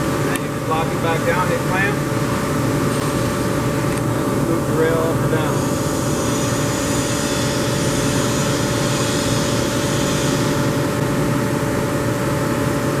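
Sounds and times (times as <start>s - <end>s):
industrial machine humming: 0.0s - 13.0s.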